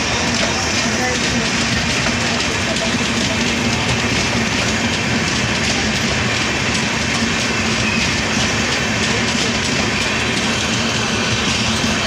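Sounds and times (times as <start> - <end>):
train wheels rumbling on rail: 0.0 - 12.0
wheels clicking over rail joints: 0.0 - 12.0.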